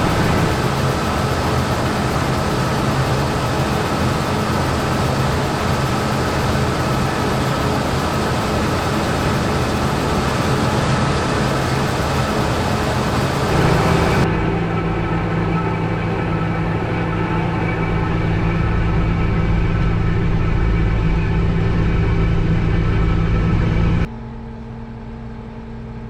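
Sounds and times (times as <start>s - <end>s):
combine harvester running: 0.0s - 26.0s
thin steady machine whine: 0.0s - 26.0s.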